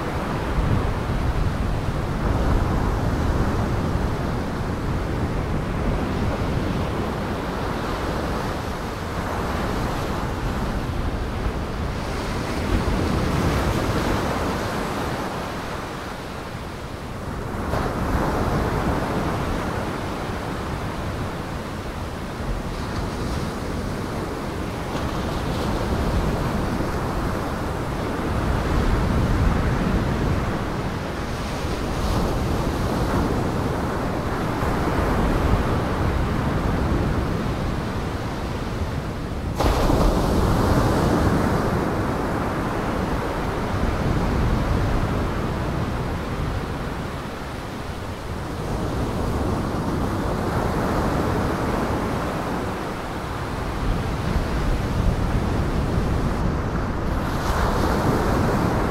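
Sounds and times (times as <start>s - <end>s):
waves breaking on shore: 0.0s - 58.9s
wind rumbling on microphone: 0.0s - 58.9s.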